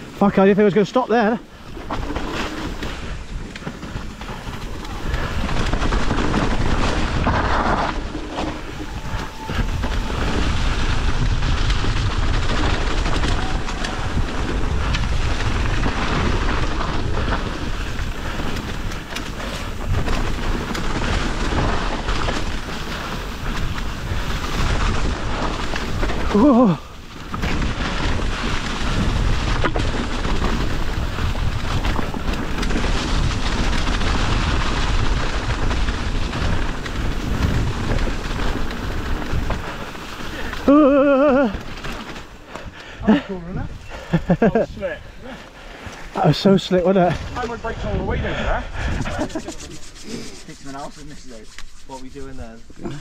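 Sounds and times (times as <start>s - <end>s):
bike tyres squelching through mud: 0.0s - 47.8s
bike rattling: 0.0s - 53.0s
wind buffeting microphone: 1.4s - 53.0s.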